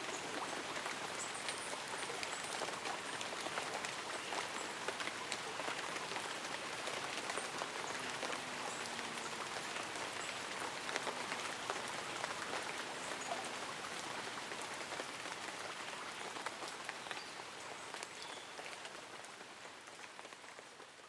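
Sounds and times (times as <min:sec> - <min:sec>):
light rain on leaves and umbrella: 0:00.0 - 0:21.0.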